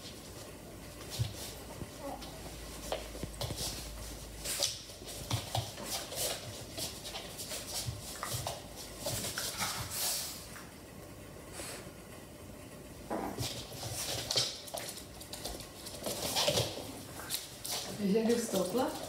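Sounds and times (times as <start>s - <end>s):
paws scrabbling on a rubber mat: 0.0s - 10.7s, 13.1s - 19.0s.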